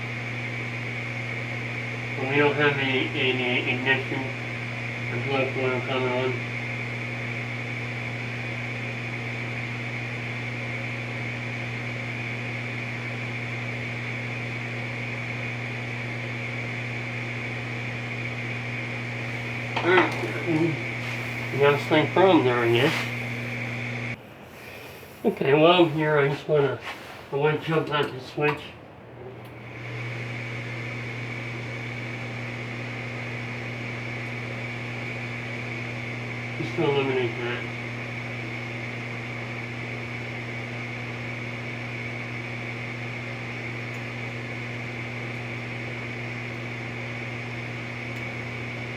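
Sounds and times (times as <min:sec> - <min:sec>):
draft inducer motor humming: 0:00.0 - 0:48.9.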